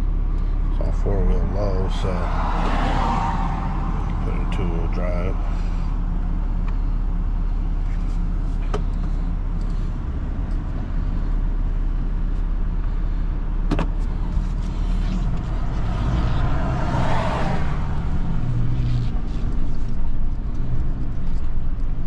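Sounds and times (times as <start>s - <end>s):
pickup engine running: 0.0s - 22.0s.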